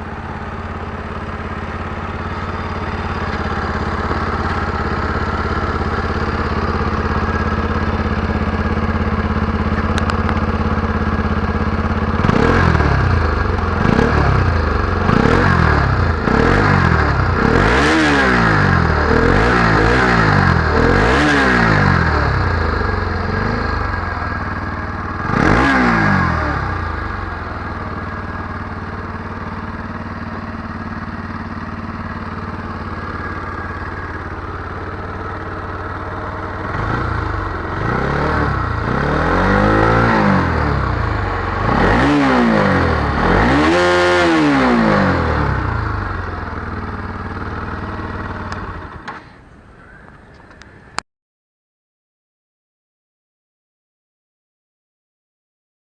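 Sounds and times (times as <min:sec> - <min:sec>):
motorcycle engine revving: 0:00.0 - 0:49.9
motorcycle engine idling: 0:00.0 - 0:51.0.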